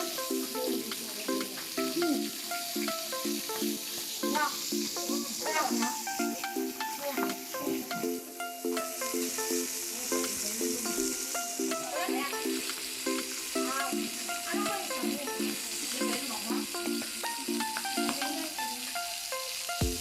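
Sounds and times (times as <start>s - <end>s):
background music with plucked notes: 0.0s - 20.0s
meat sizzling on a grill: 0.0s - 20.0s.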